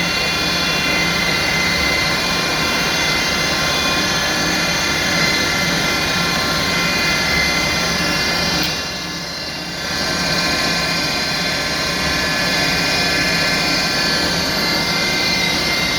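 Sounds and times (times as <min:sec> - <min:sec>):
milling machine whining: 0:00.0 - 0:15.9.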